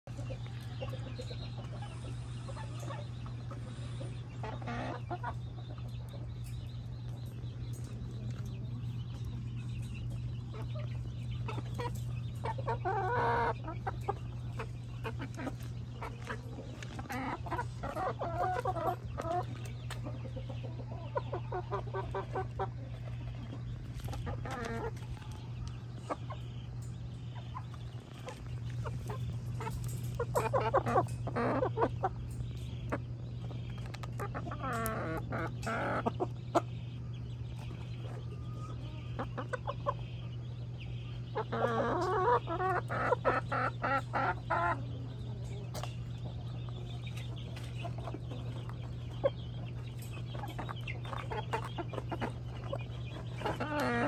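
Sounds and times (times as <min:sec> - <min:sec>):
steady low hum: 0:00.0 - 0:54.0
chickens clucking and calling: 0:00.1 - 0:54.0.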